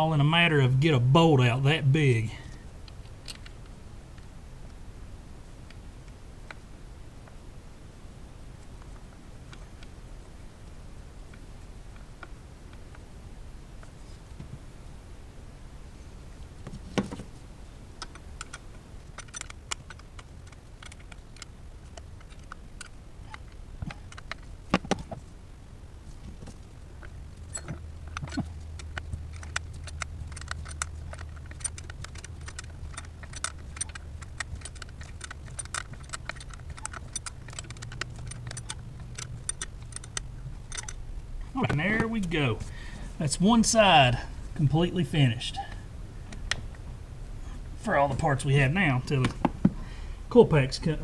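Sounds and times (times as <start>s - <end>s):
low steady hum: 0.0s - 19.2s, 21.6s - 51.0s.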